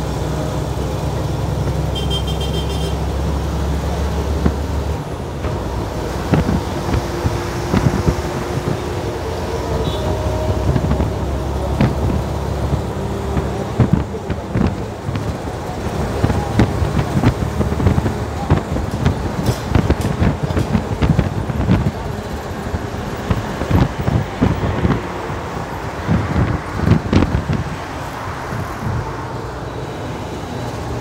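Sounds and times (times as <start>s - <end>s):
bus engine and road rumble: 0.0s - 31.0s
bus body rattles and knocks: 3.0s - 31.0s.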